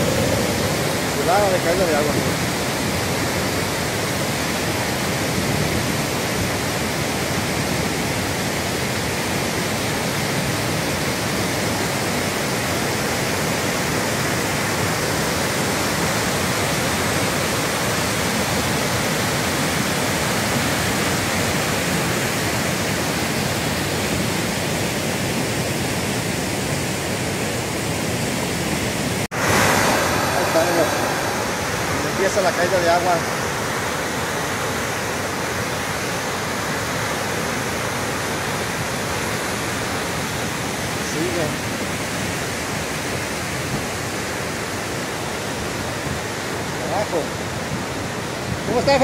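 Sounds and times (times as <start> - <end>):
waterfall rushing over rocks: 0.0 - 49.0.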